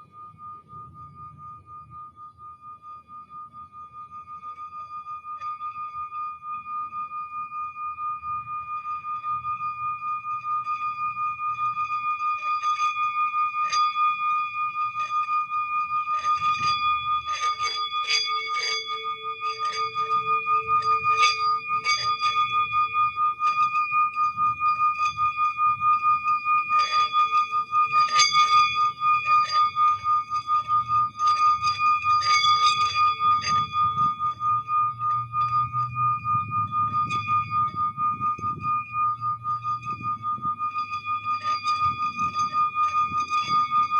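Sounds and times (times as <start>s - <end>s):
lower held tone: 0.0s - 43.9s
singing bowl high tone: 0.0s - 43.9s.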